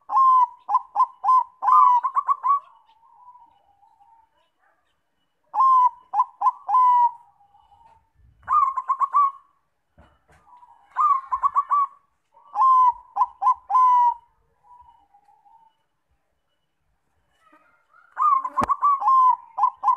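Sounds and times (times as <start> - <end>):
dove cooing: 0.0 - 4.7, 5.5 - 9.6, 10.4 - 15.8, 17.5 - 19.9.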